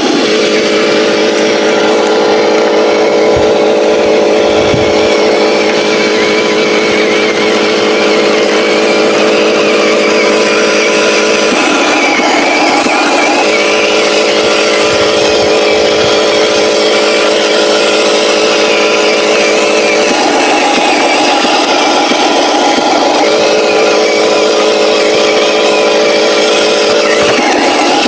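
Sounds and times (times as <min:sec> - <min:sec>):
toy truck engine droning: 0:00.0 - 0:28.0.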